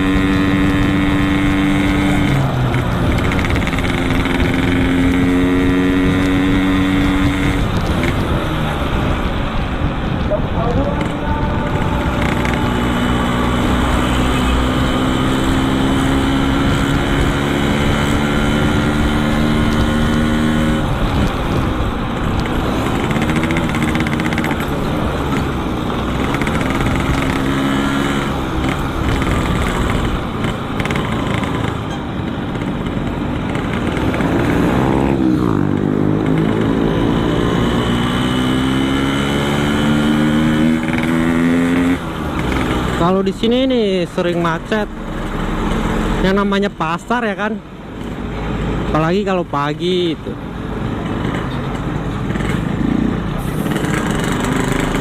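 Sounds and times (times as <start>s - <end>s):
motorcycle engine accelerating: 0.0s - 49.0s, 49.9s - 55.0s.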